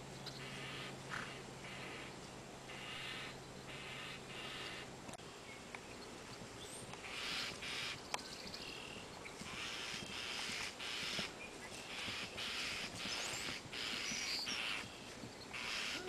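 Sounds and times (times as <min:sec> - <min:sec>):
harsh animal or bird calls: 0:00.2 - 0:04.9, 0:07.0 - 0:08.0, 0:08.6 - 0:16.0.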